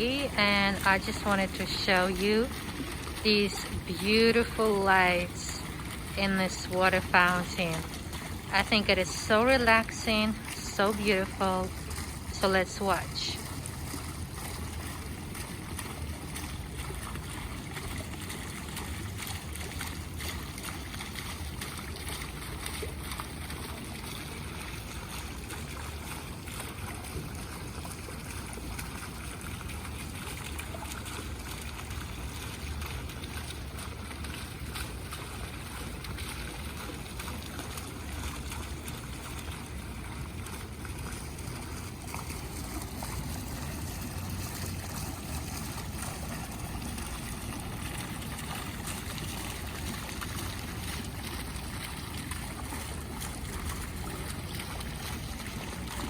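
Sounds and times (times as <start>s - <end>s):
water fountain splashing: 0.0s - 56.0s.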